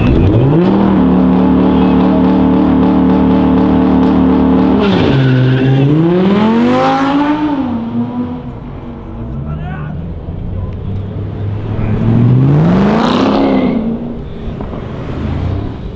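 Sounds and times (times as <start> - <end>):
car engine revving: 0.0 - 9.4, 10.1 - 15.9.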